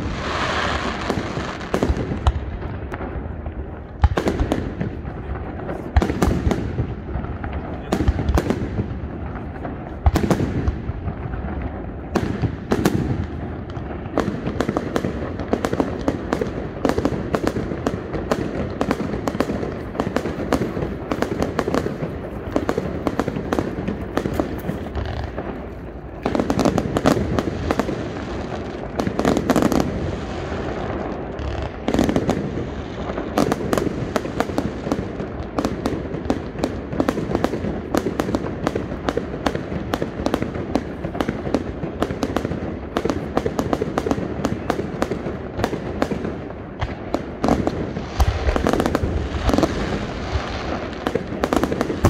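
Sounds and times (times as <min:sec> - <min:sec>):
fireworks bursts and bangs: 0:00.0 - 0:52.0.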